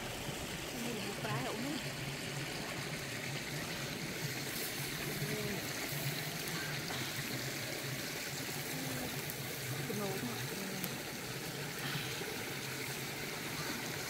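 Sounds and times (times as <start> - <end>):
stream trickling: 0.0 - 14.0.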